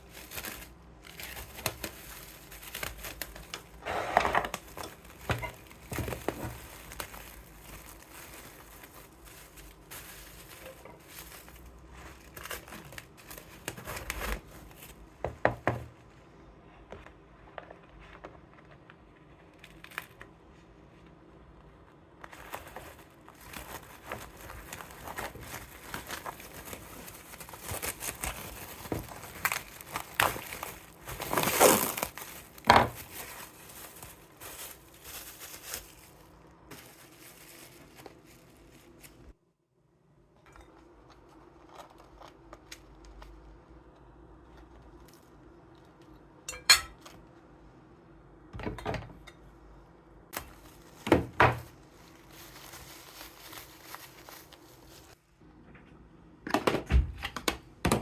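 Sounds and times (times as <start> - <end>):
crinkling and rustling: 0.0 - 39.4, 40.6 - 47.4, 50.4 - 55.2.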